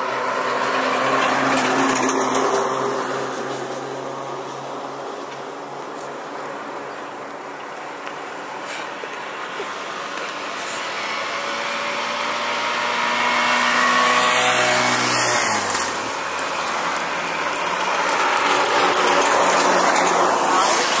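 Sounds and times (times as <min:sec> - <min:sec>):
lorry engine passing: 0:00.0 - 0:05.8, 0:09.3 - 0:21.0
tyres hissing on road: 0:00.0 - 0:12.2, 0:13.6 - 0:21.0
vehicle approaching: 0:00.0 - 0:21.0.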